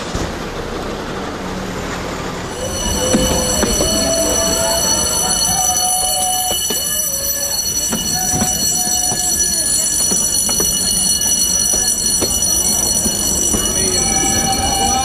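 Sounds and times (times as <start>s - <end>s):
train wheels rumbling: 0.0s - 15.0s
wheels clacking over rail joints: 0.0s - 15.0s.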